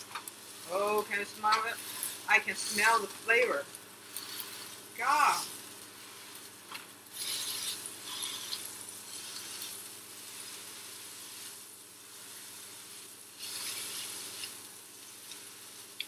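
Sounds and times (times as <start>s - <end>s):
burger sizzling in a frying pan: 0.0s - 16.0s.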